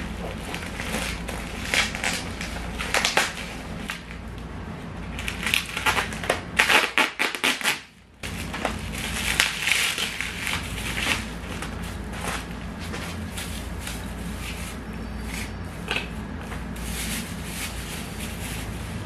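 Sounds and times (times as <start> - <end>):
bubble wrap crinkling: 0.0 - 4.4, 5.0 - 19.0.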